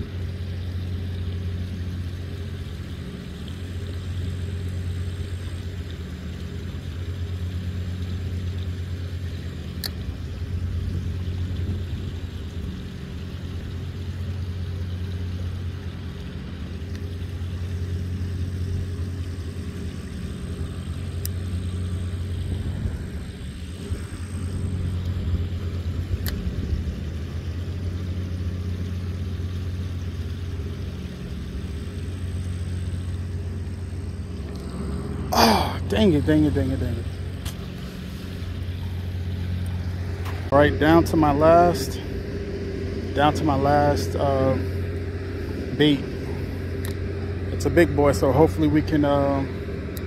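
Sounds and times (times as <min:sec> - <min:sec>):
low engine hum: 0:00.0 - 0:50.0.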